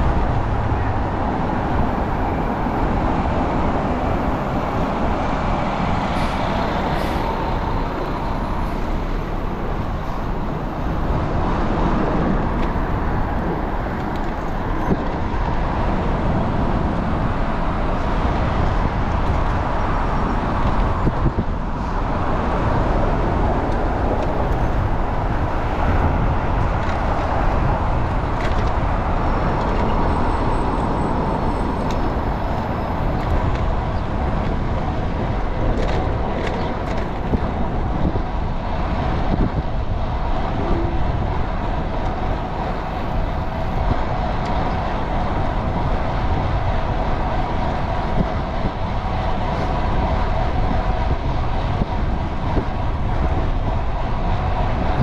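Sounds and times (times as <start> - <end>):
city street traffic: 0.0 - 55.0
wind rushing over microphone: 0.0 - 55.0.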